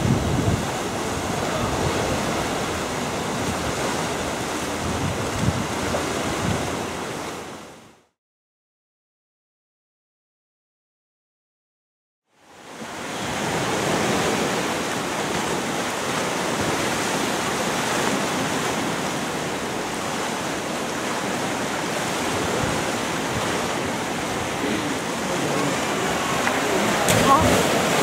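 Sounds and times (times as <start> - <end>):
ocean surf against rocks: 0.0 - 8.0, 12.5 - 28.0.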